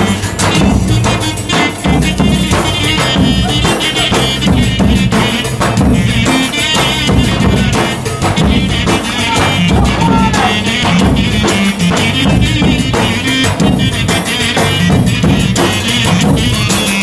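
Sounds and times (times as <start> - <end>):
folk dance music: 0.0 - 17.0.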